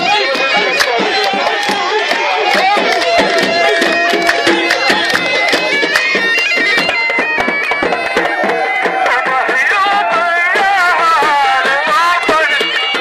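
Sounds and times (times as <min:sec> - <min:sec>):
folk dance music: 0:00.0 - 0:13.0
hands clapping: 0:00.0 - 0:13.0
reedy wind melody: 0:00.0 - 0:13.0.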